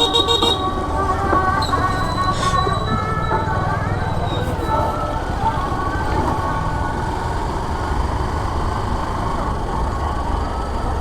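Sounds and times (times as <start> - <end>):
motorcycle engine running: 0.0 - 11.0
street noise: 0.0 - 11.0.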